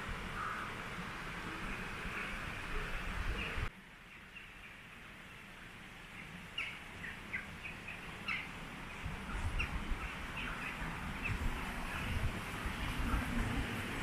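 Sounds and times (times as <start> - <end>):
small birds chirping: 1.5 - 13.2.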